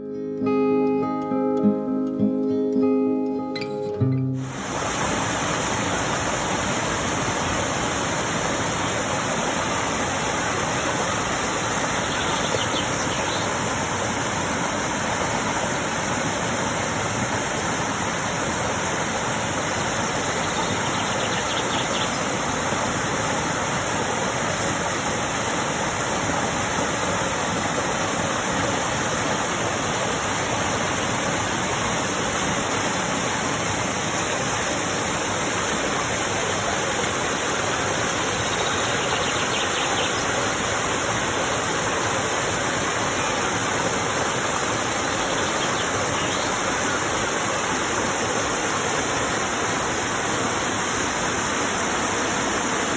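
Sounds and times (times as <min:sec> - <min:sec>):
rush of falling water: 0:04.3 - 0:52.9.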